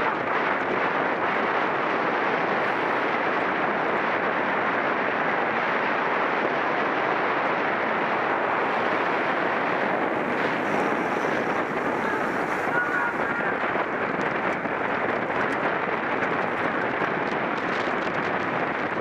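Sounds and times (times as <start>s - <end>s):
road and tyre noise: 0.0s - 19.0s
wind rushing on microphone: 0.0s - 19.0s.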